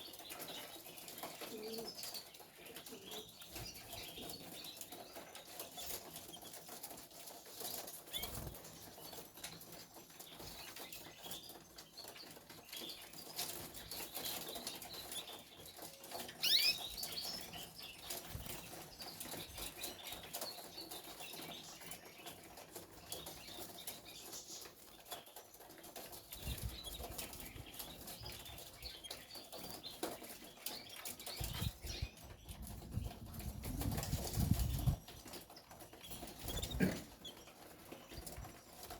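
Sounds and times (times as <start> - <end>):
birds fluttering wingbeats: 0.0 - 11.5, 12.2 - 38.9.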